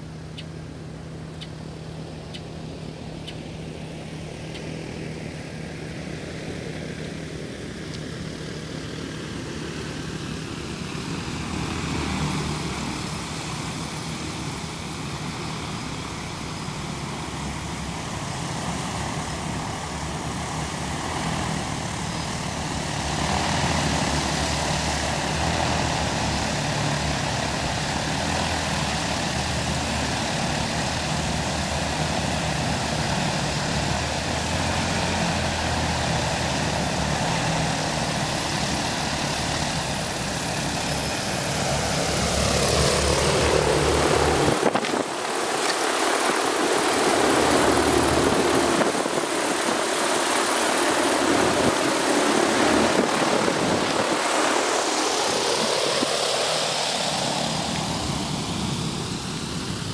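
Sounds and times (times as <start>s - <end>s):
engine droning: 0.0s - 59.9s.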